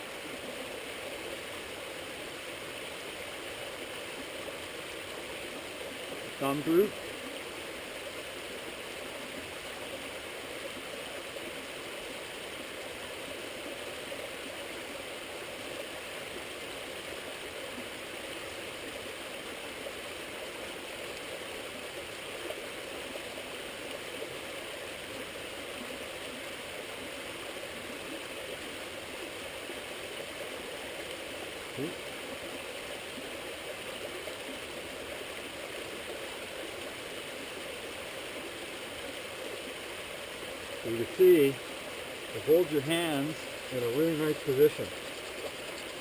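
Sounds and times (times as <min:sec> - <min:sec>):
creek water flowing: 0:00.0 - 0:46.0.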